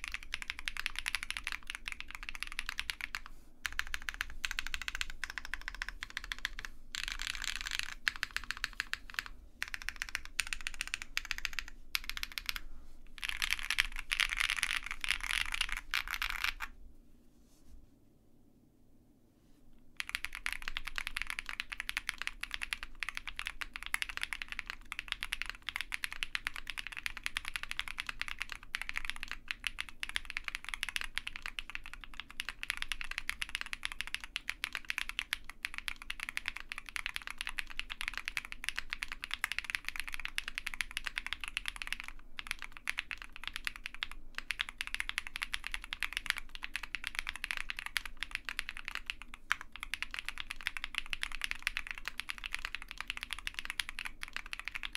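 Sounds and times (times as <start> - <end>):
fast typing on mechanical keyboard: 0.0 - 12.6, 13.2 - 16.7, 20.0 - 54.9.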